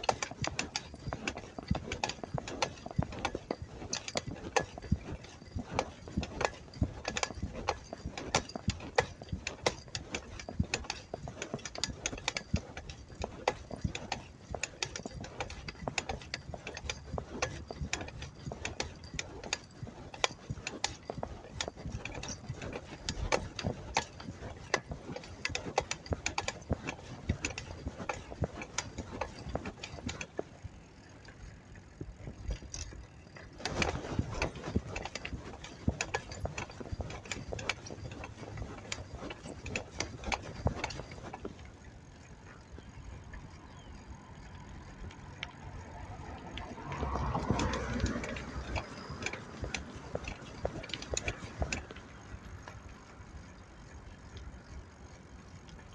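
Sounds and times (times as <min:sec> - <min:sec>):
bicycle clicking and rattling: 0:00.0 - 0:55.9.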